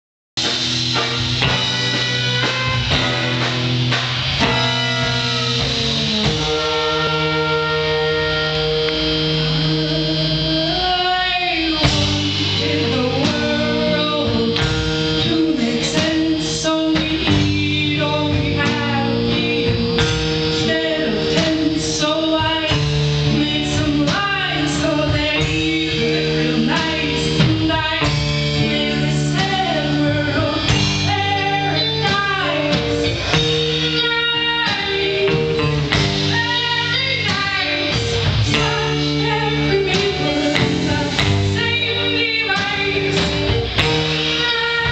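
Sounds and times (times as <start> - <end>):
live band playing: 0.4 - 44.9
person singing: 4.4 - 44.9.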